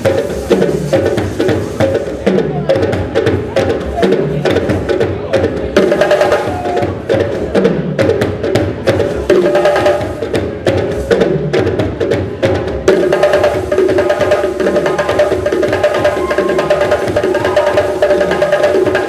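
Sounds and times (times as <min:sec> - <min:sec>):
rapid percussion strokes: 0:00.0 - 0:19.0.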